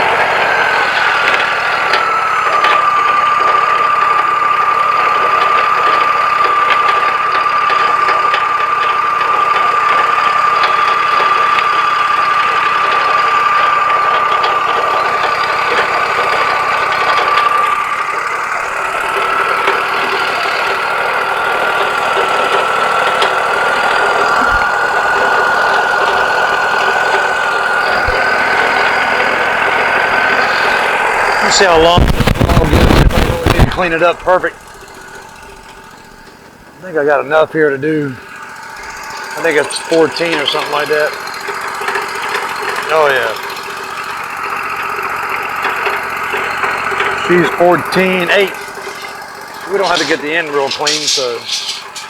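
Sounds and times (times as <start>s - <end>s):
bandsaw mill running: 0.0s - 52.0s.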